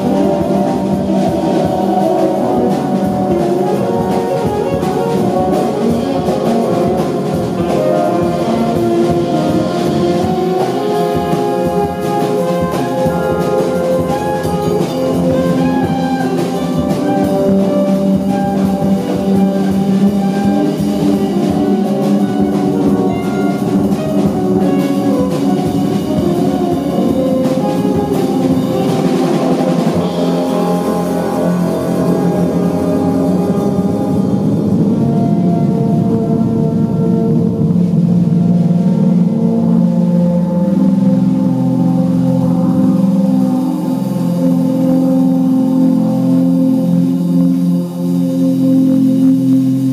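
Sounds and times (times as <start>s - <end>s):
double bass: 0.0s - 49.9s
drums: 0.0s - 49.9s
saxophone: 0.0s - 49.9s.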